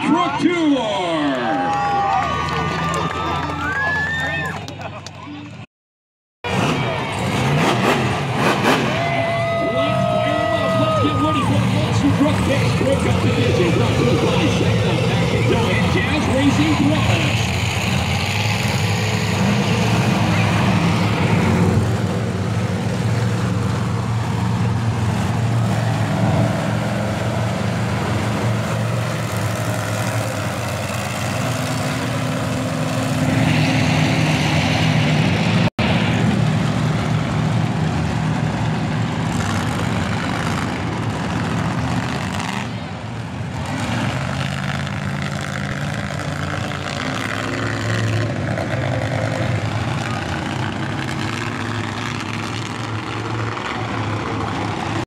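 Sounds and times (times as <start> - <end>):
crowd noise: 0.0 - 5.7, 6.4 - 55.0
monster truck engines revving: 6.4 - 55.0.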